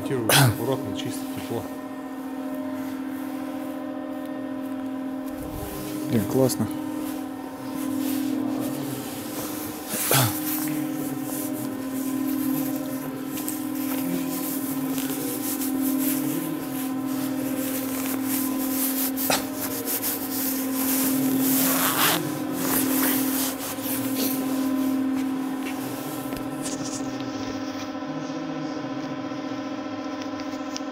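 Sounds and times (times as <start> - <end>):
steady machine hum: 0.0 - 30.9.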